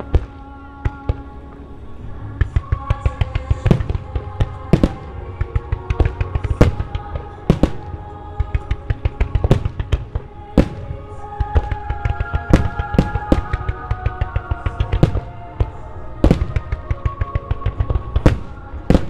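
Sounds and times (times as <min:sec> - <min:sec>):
music with held tones: 0:00.0 - 0:19.0
fireworks bangs: 0:02.2 - 0:19.0.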